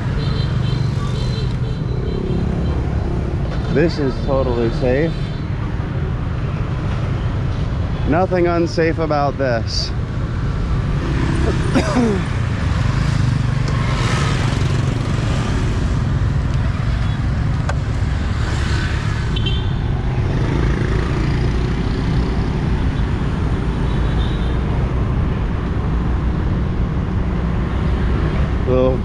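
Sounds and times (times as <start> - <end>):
street traffic noise: 0.0 - 29.0.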